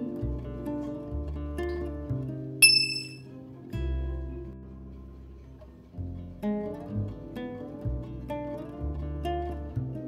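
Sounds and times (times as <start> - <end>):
plucked string notes: 0.0 - 10.0.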